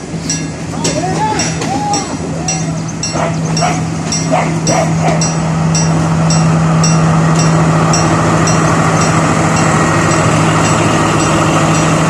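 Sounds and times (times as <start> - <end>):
diesel train engine droning: 0.0 - 12.0.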